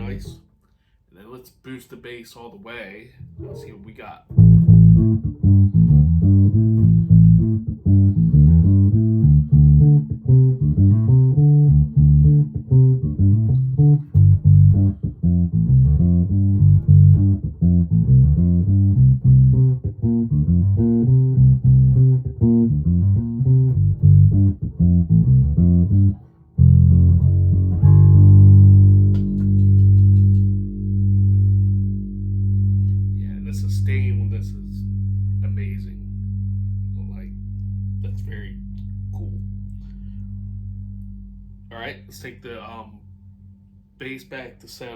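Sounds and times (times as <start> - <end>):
electric bass plucked notes: 0.0 - 0.4, 3.2 - 44.2.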